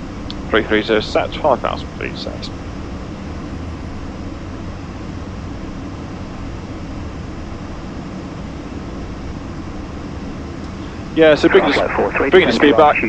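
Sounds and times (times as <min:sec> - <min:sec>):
jet cockpit airflow and engine noise: 0:00.0 - 0:13.0.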